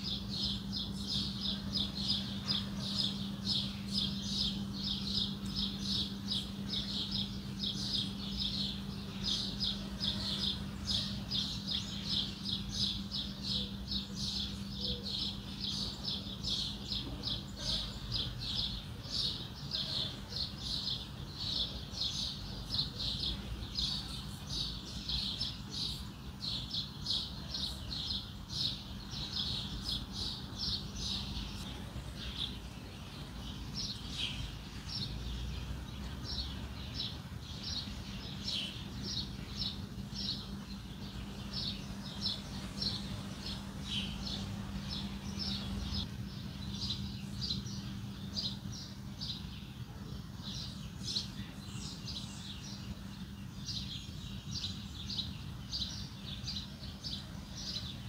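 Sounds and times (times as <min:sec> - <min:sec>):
birds chirping: 0:00.0 - 0:58.0
steady low hum: 0:00.0 - 0:58.0.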